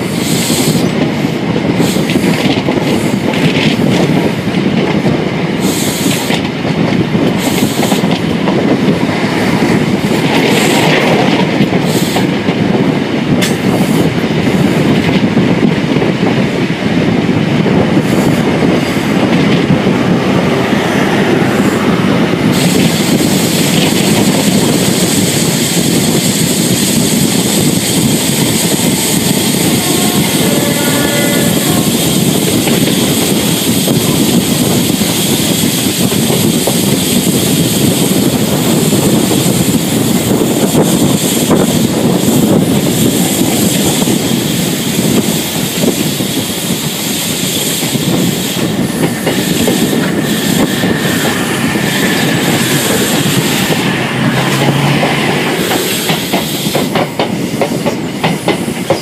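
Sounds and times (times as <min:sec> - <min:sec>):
rushing air: 0:00.0 - 0:59.0
train wheels rumbling on rails: 0:00.0 - 0:59.0.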